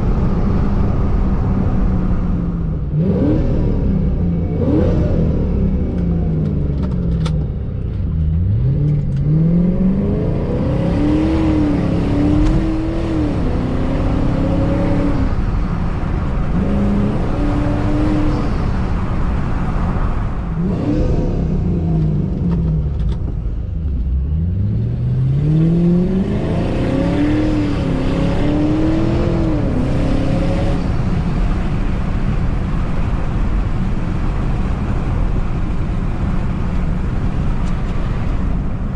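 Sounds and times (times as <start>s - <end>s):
car engine accelerating hard: 0.0s - 38.9s
road and tyre noise: 0.0s - 38.9s.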